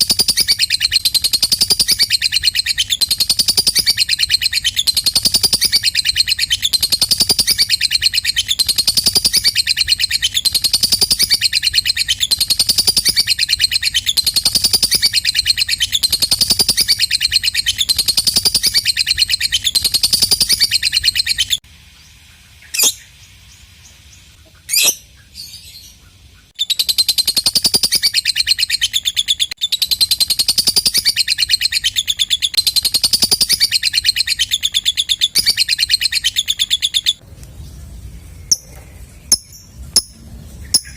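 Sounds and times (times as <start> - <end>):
lovebird chattering trill: 0.0 - 21.6, 24.4 - 37.2, 38.3 - 40.9
sharp bird chirps: 0.0 - 40.9.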